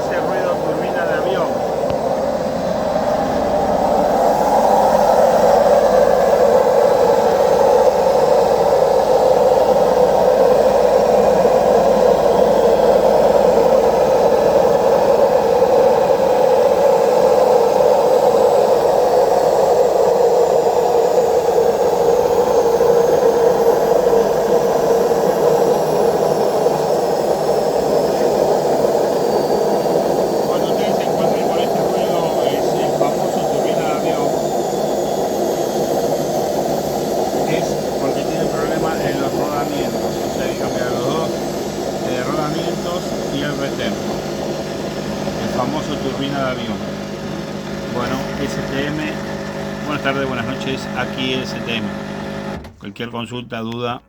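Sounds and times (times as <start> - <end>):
washing machine spinning roar: 0.0 - 53.3.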